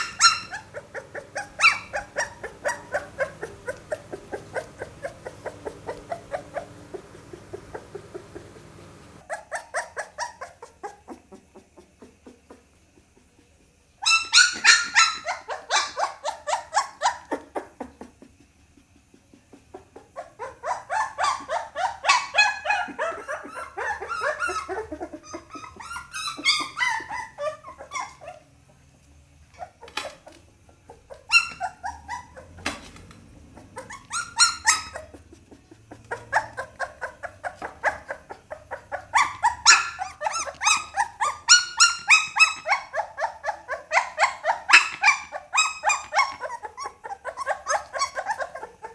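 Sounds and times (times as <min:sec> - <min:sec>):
puppy whining and yelping: 0:00.0 - 0:12.6, 0:14.0 - 0:28.6, 0:29.5 - 0:48.9.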